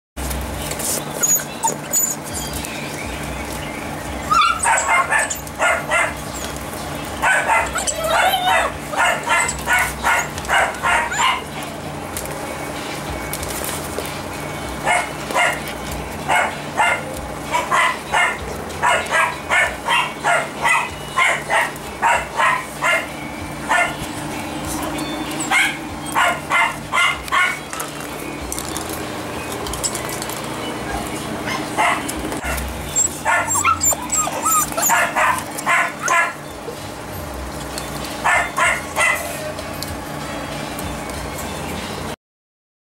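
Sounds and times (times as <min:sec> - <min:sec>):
puppies yapping: 0:00.6 - 0:40.9.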